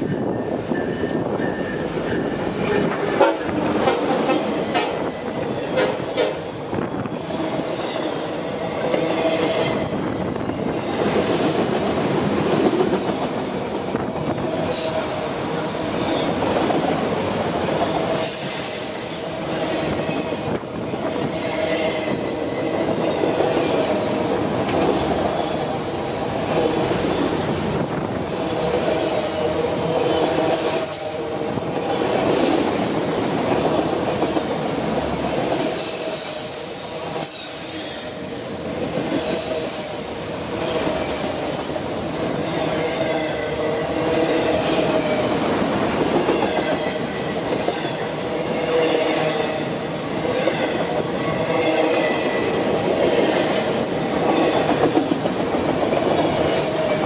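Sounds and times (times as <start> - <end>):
diesel locomotive passing: 0.0 - 57.0
train wheels rumbling on rail: 0.0 - 57.0.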